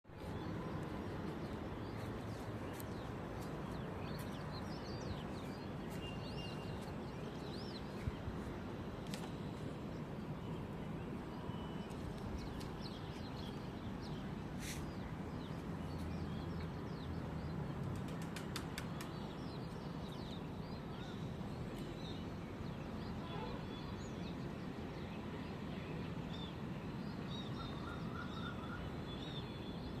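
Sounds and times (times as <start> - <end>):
small birds chirping: 0.1 - 24.4
low background noise: 0.1 - 30.0.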